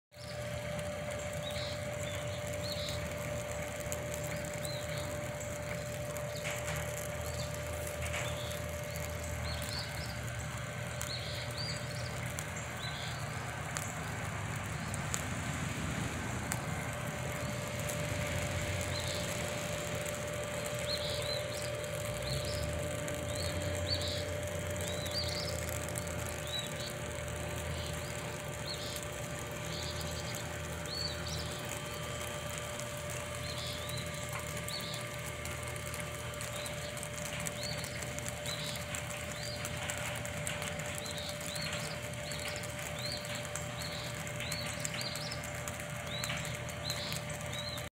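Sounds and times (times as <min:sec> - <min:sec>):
small birds chirping: 0:00.1 - 0:15.5, 0:16.4 - 0:47.9
light rain falling: 0:00.2 - 0:47.9
low steady rumble: 0:00.2 - 0:47.9.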